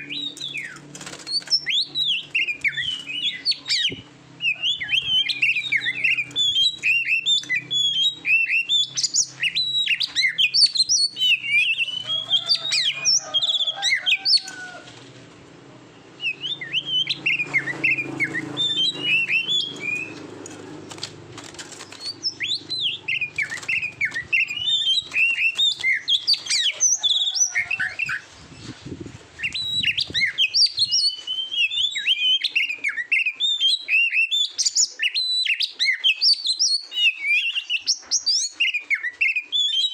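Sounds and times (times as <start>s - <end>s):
magpie-robin singing: 0.0s - 14.5s, 16.2s - 39.9s.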